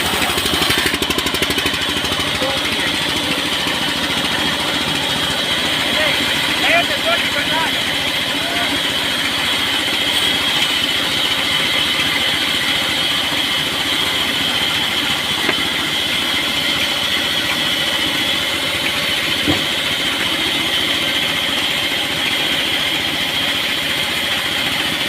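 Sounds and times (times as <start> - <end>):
sawmill saw whining: 0.0 - 25.0.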